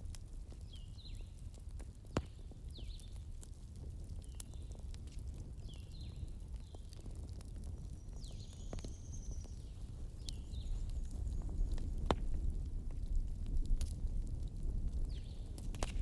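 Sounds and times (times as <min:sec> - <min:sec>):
bonfire crackling and popping: 0:00.0 - 0:16.0
low steady fire rumble: 0:00.0 - 0:16.0.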